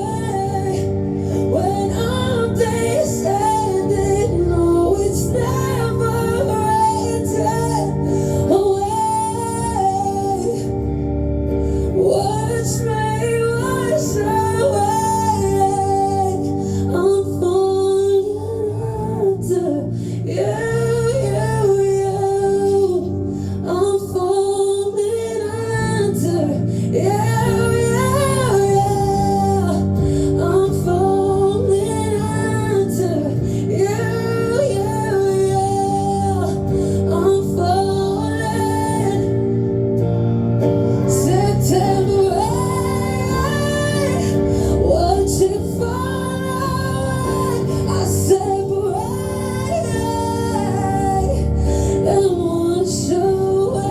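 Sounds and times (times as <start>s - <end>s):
woman singing: 0.0s - 53.9s.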